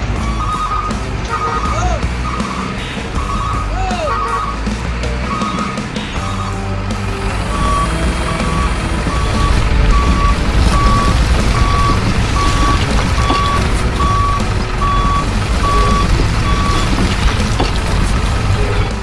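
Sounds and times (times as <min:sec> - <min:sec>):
low truck engine rumble: 0:00.0 - 0:19.0
truck reversing alarm beeping: 0:00.0 - 0:19.0.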